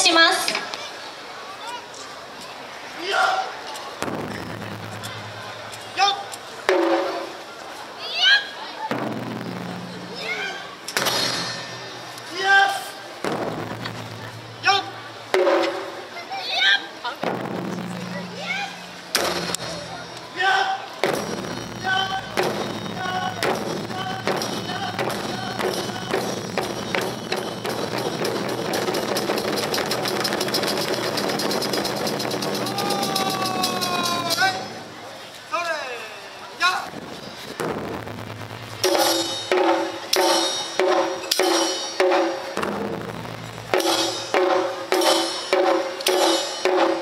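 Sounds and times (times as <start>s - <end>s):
drum ensemble playing: 4.0s - 7.6s, 8.8s - 16.4s, 17.1s - 35.2s, 36.9s - 47.0s.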